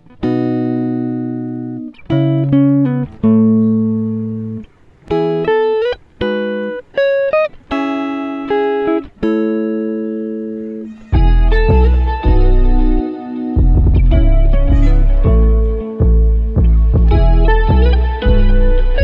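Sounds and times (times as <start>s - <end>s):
instrumental music chords and notes: 0.0s - 19.0s.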